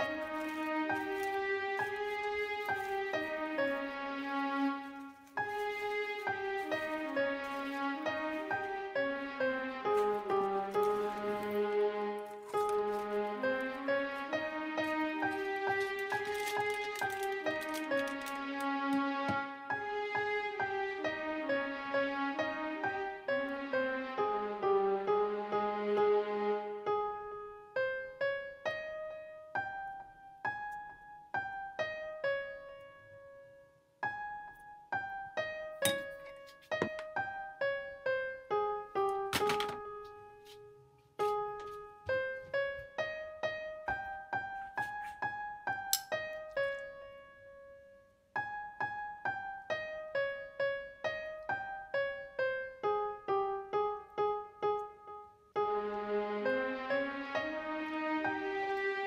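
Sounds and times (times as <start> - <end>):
slow piano melody: 0.0 - 59.0.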